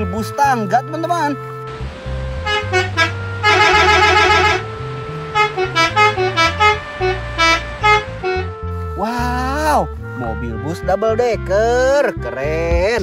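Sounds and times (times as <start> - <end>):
musical bus horn tooting: 0.0 - 12.5
background music with bass: 0.0 - 13.0.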